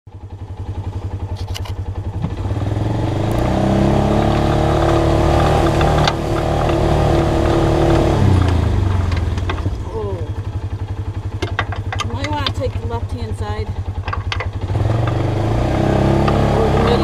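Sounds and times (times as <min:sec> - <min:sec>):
engine idling and revving: 0:00.1 - 0:17.0.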